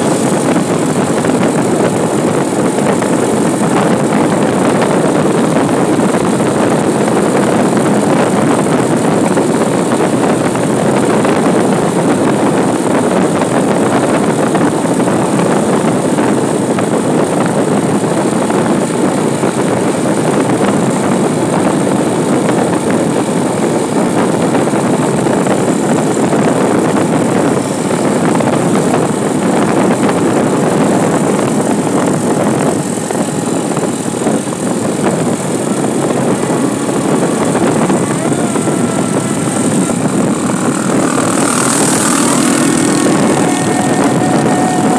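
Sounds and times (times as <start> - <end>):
wind and road noise: 0.0 - 44.9
wind buffeting microphone: 0.0 - 44.9.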